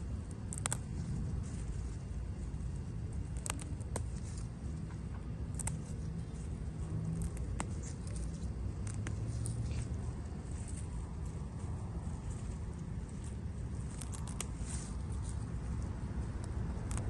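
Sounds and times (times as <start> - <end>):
leaves rustling under a hand: 0.0 - 17.0
steady low rumble: 0.0 - 17.0.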